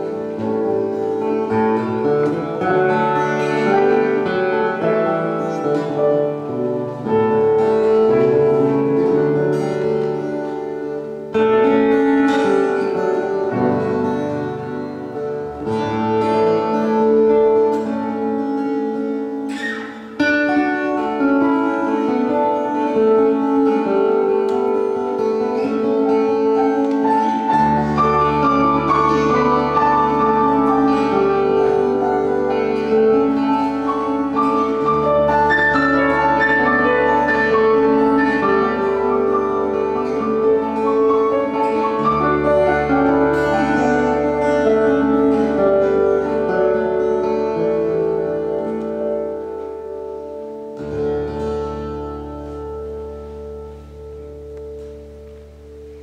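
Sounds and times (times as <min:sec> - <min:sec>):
grand piano: 0:00.0 - 0:56.0
small plucked string instrument: 0:00.0 - 0:56.0.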